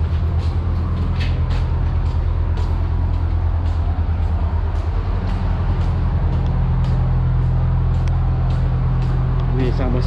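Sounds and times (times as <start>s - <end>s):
footsteps on deck: 0.0s - 9.7s
ship engine drone: 0.0s - 10.0s.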